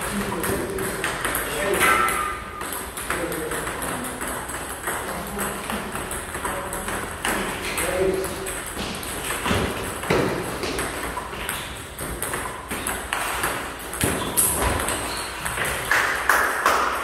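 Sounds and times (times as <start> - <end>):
table tennis balls clicking: 0.0 - 17.0.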